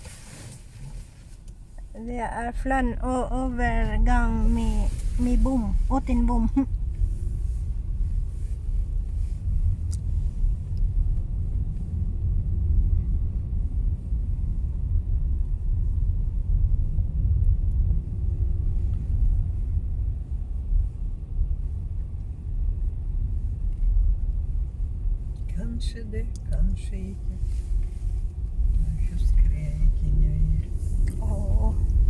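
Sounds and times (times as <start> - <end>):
car driving heard from inside: 0.0 - 32.0
faint steady hum: 0.0 - 32.0.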